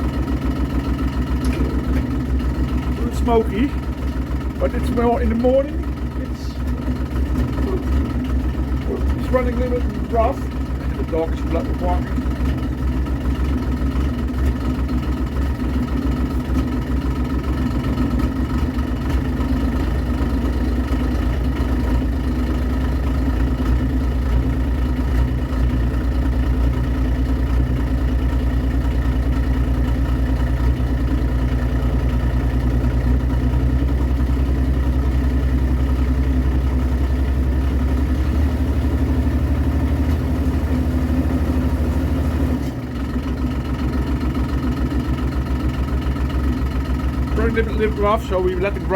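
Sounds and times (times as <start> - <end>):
diesel engine idling roughly: 0.0 - 48.9.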